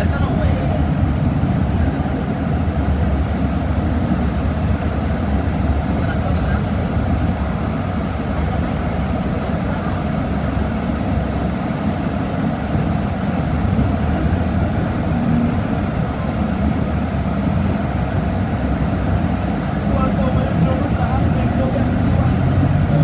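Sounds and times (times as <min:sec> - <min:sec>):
bus engine rumbling: 0:00.0 - 0:23.0.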